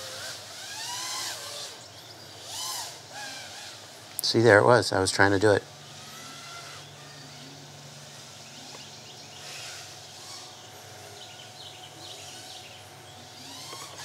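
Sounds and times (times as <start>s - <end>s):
steady low hum: 0.0s - 14.0s
birds chirping: 0.4s - 14.0s.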